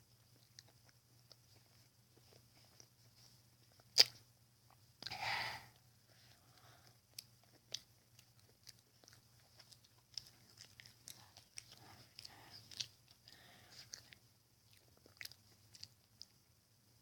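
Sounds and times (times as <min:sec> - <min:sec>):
close-up chewing: 0:00.0 - 0:05.2, 0:05.8 - 0:16.6
low steady hum: 0:00.0 - 0:17.0.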